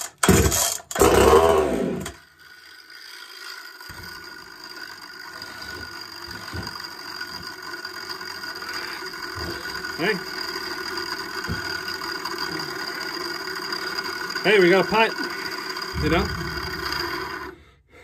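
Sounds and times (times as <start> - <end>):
recoil starter cord yanks: 0.0 - 17.6
chainsaw engine running: 0.0 - 17.8.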